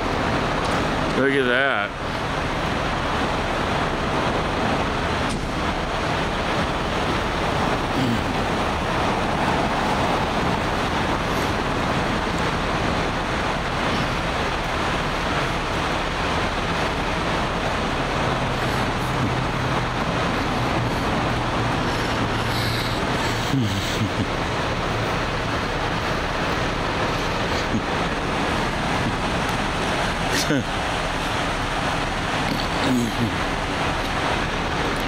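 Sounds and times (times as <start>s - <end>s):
low engine hum: 0.0s - 35.0s
road traffic: 0.0s - 35.0s.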